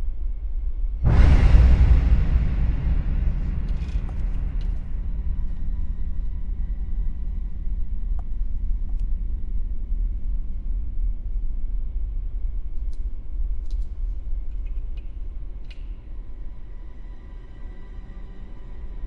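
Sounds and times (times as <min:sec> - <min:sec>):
steady low rumble: 0:00.0 - 0:17.4.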